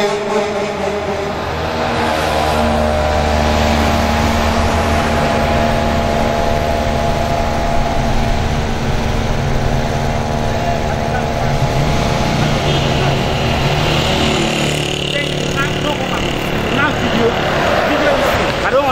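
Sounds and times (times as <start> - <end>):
vehicle engine running: 1.3 - 18.9.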